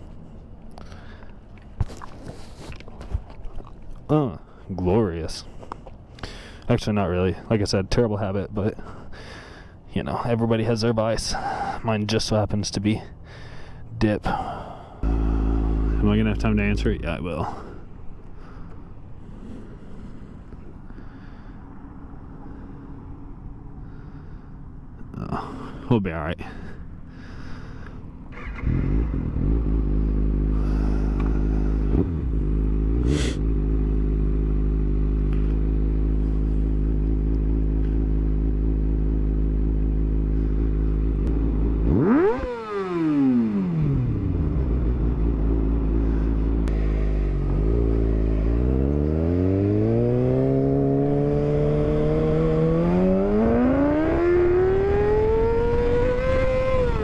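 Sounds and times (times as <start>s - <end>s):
motorcycle engine idling and revving: 10.2s - 25.6s, 26.4s - 57.0s.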